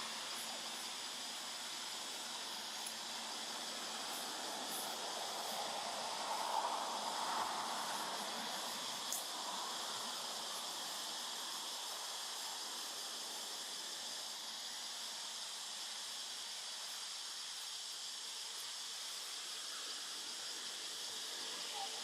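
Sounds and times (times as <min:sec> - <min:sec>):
droning insects hissing: 0:00.0 - 0:22.0.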